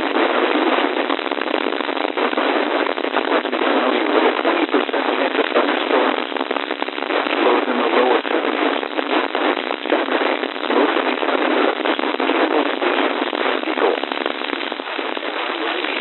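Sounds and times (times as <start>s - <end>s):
radio static hiss with crackles: 0.0s - 16.0s.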